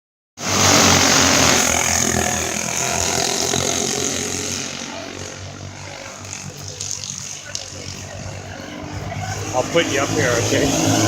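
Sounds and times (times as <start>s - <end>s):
go-kart engines running: 0.4s - 11.0s.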